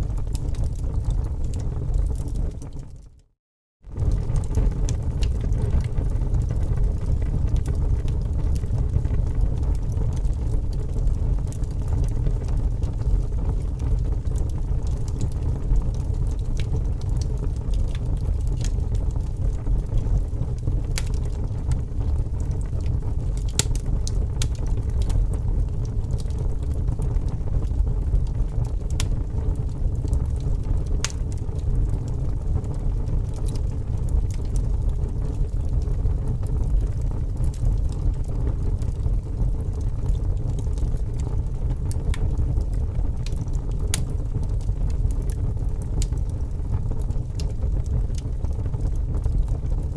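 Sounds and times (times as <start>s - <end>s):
fire low rumble: 0.0s - 49.9s
wood fire crackling and popping: 0.0s - 49.9s.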